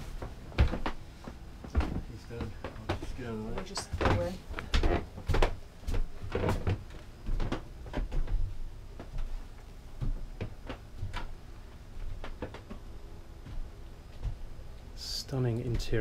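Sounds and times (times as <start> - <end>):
knocks and thuds of people moving: 0.0 - 14.5, 15.4 - 16.0.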